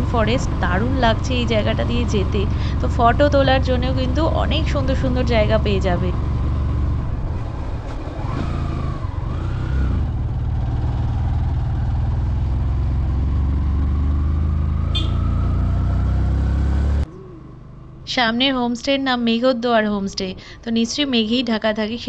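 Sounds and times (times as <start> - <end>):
motorcycle engine running: 0.0 - 19.3.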